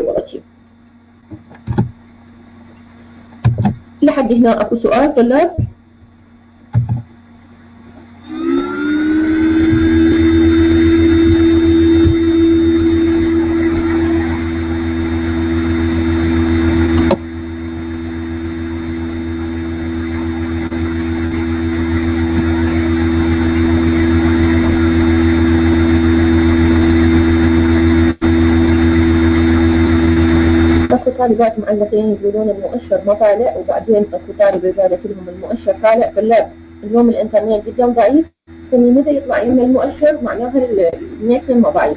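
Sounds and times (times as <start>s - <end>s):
electrical hum and hiss: 0.0s - 41.9s.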